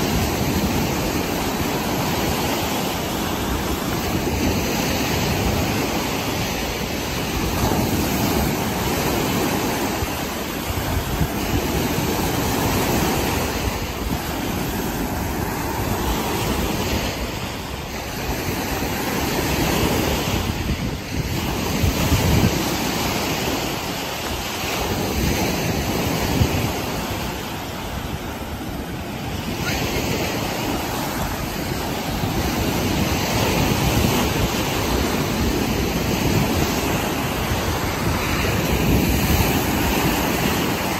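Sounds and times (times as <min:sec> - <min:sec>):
waves washing on beach: 0:00.0 - 0:40.9
wind rumble on microphone: 0:00.0 - 0:40.9.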